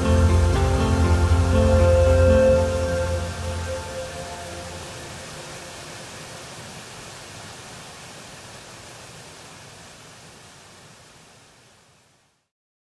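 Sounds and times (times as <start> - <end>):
water rushing over rocks: 0.0 - 12.2.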